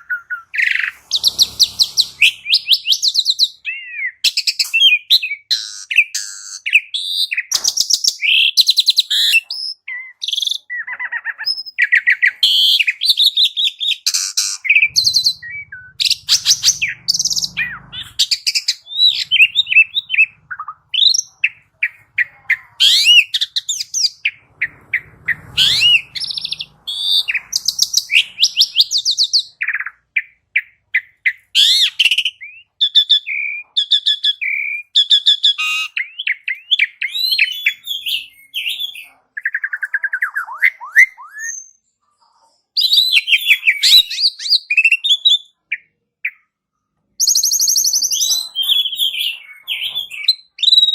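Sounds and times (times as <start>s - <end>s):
starling singing: 0.0s - 41.7s, 47.2s - 50.9s.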